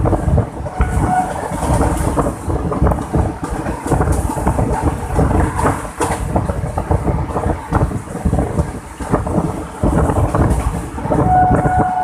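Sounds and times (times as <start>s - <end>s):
coach rattling over track: 0.0s - 12.0s
train rumbling on board: 0.0s - 12.0s
wind buffeting microphone: 0.0s - 12.0s.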